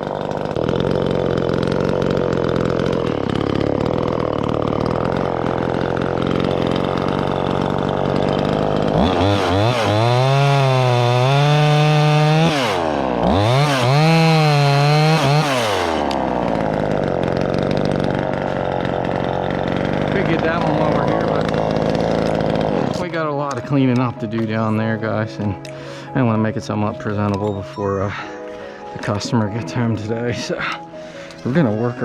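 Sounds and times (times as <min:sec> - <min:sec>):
chainsaw idling and revving: 0:00.0 - 0:27.4, 0:28.8 - 0:32.0.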